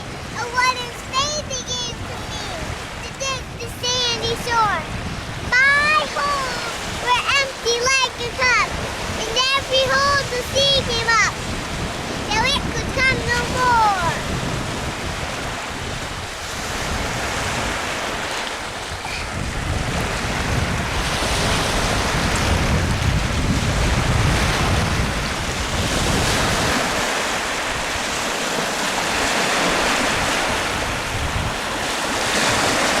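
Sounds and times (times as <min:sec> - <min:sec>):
ocean surf washing: 0:00.0 - 0:33.0
wind buffeting microphone: 0:00.0 - 0:33.0.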